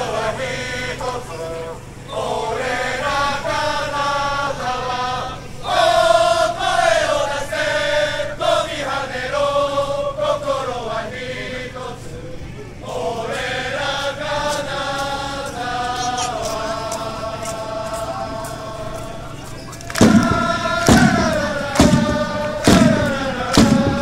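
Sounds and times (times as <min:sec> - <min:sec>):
crowd chanting a song: 0:00.0 - 0:24.0.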